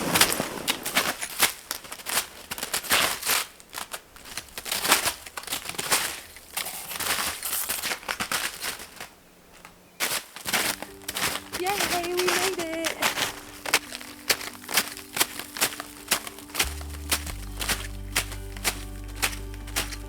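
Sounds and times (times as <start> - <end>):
footsteps crunching through snow: 0.0 - 20.0.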